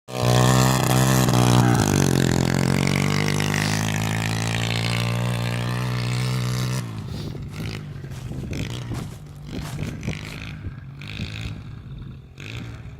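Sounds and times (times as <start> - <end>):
pit bike engine running: 0.1 - 12.9.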